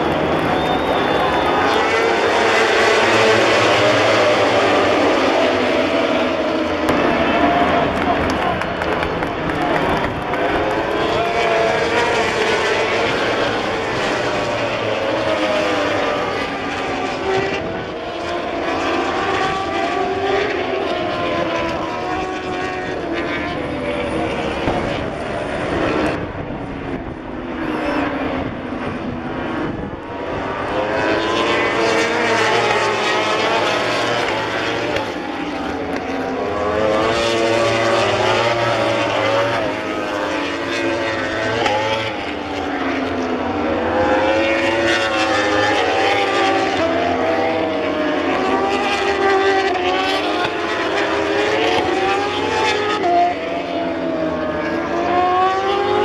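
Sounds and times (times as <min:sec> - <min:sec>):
racing motorcycles passing: 0:00.0 - 0:56.0.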